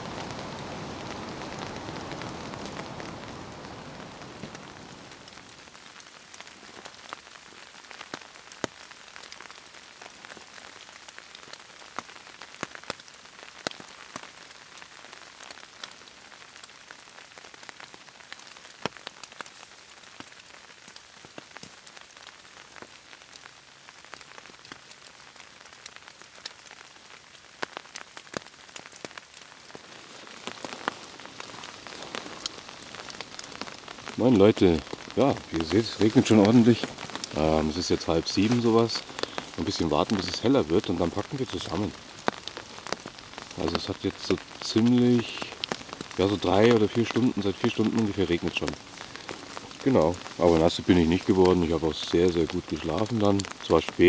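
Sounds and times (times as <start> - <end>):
rain hissing: 0.0 - 54.0
raindrops ticking: 0.0 - 54.0.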